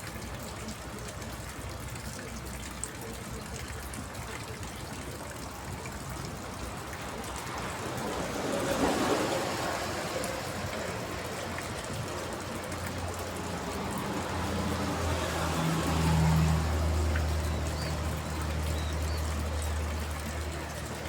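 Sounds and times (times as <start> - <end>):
rain on water tank: 0.0 - 21.0.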